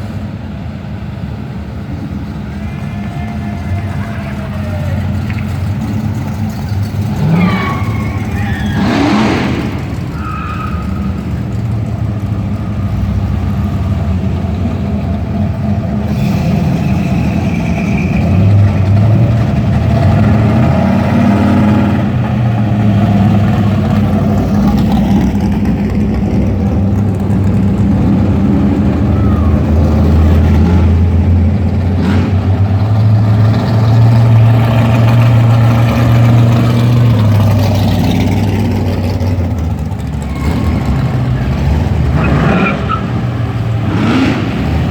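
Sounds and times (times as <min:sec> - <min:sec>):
car engines cruising past: 0:00.0 - 0:44.9
cars revving past: 0:02.2 - 0:44.9.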